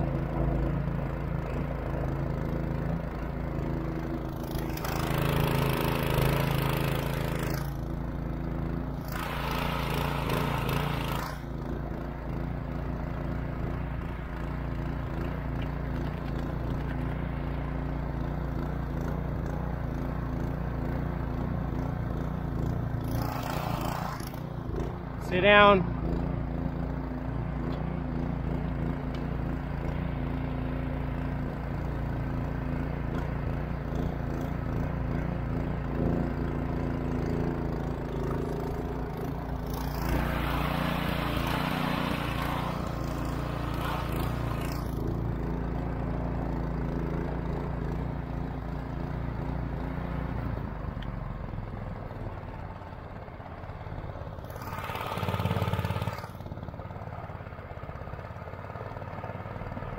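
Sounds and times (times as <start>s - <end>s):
boat motor running: 0.0s - 50.1s, 53.6s - 57.4s.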